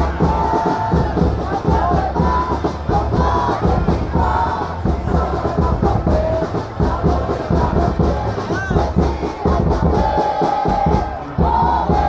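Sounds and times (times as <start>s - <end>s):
crowd chanting and singing: 0.0s - 12.0s
music with a beat: 0.0s - 12.0s.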